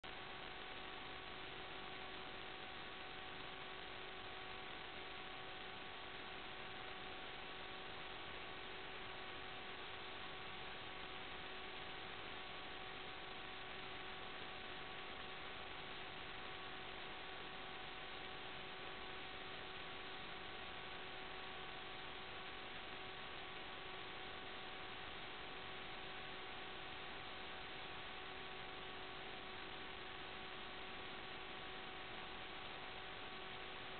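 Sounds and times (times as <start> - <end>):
faint hum tones: 0.0 - 33.9
static hiss: 0.0 - 33.9.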